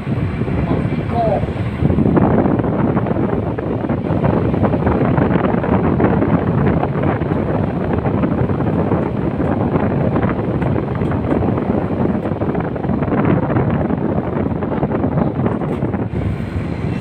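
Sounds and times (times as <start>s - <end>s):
air conditioner fan rushing: 0.0s - 17.0s.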